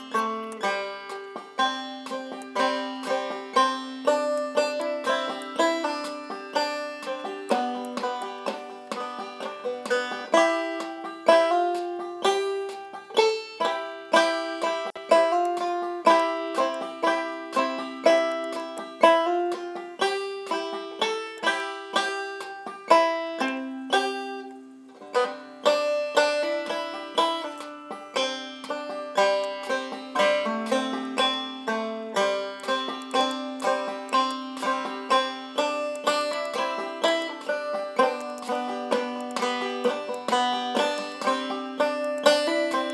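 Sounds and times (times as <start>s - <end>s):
banjo picking: 0.0s - 42.9s.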